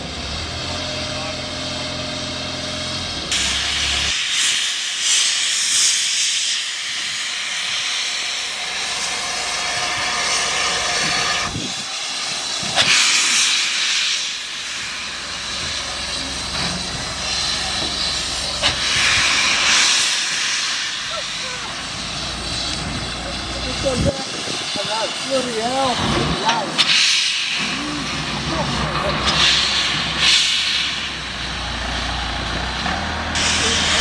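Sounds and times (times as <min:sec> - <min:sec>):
steam locomotive hissing steam: 0:00.0 - 0:34.0.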